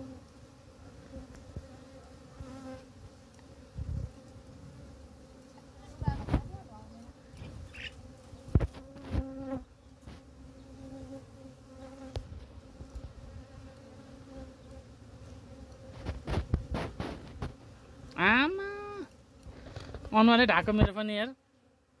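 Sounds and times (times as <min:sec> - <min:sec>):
honey bees buzzing: 0:00.0 - 0:22.0.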